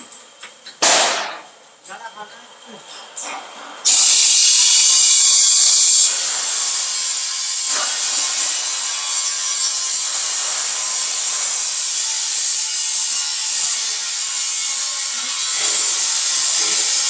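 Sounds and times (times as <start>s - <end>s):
plate rolling machine metallic hiss: 2.9s - 17.0s.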